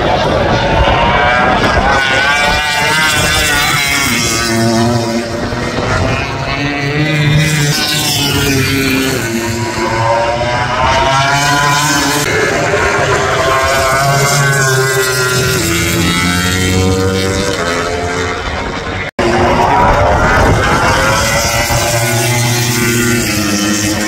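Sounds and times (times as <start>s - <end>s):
racing motorcycle engines: 0.0s - 24.0s.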